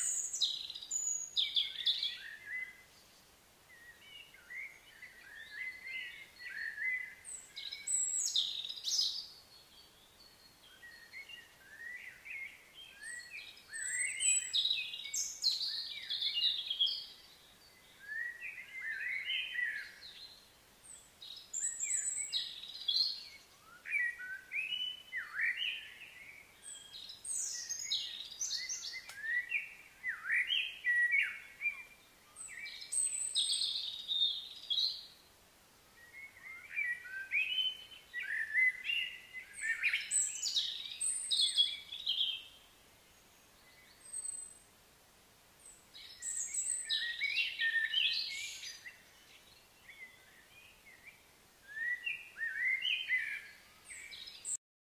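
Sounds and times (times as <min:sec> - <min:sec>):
songbird chirping and whistling: 0:00.0 - 0:02.9, 0:03.7 - 0:35.2, 0:36.0 - 0:42.6, 0:43.6 - 0:44.6, 0:45.9 - 0:54.6.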